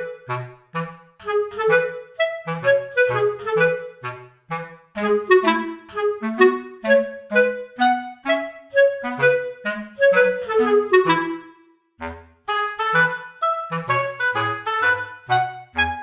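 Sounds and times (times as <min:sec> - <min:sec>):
bouncy woodwind-like tune: 0:00.0 - 0:16.0.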